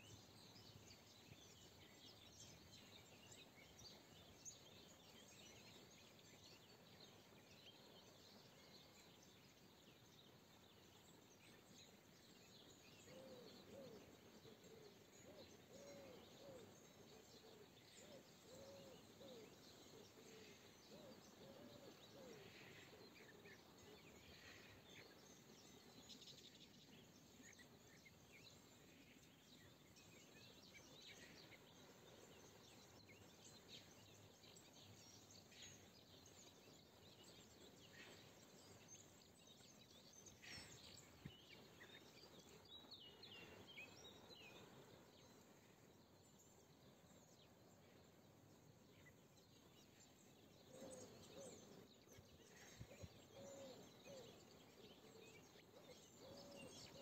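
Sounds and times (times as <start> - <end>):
low steady hiss: 0.0 - 57.0
small birds chirping: 0.0 - 57.0.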